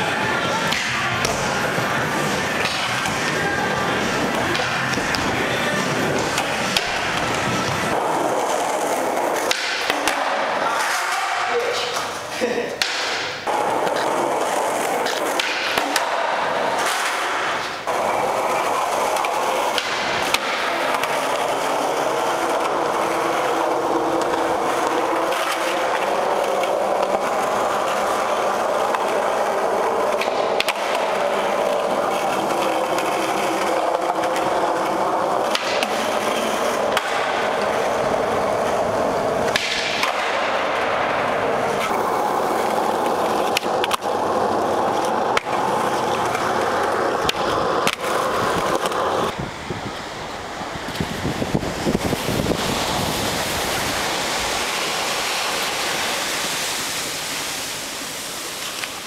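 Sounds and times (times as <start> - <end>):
skateboard clacks: 0.0 - 56.8
skateboard wheels rolling on concrete: 0.0 - 59.0.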